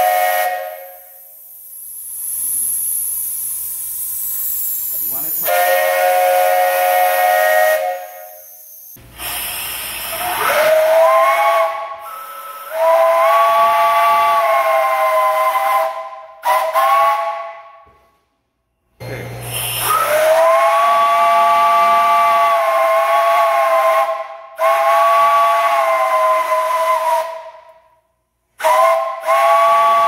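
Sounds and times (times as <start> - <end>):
steam hissing: 0.0 - 17.5, 19.0 - 27.6, 28.6 - 30.0
three-chime steam whistle blasts: 0.0 - 18.2, 19.4 - 30.0.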